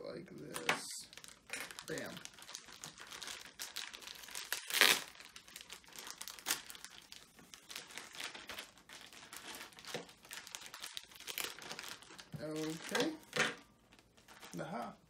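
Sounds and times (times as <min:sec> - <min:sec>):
packaging bags crinkling: 0:00.3 - 0:15.0.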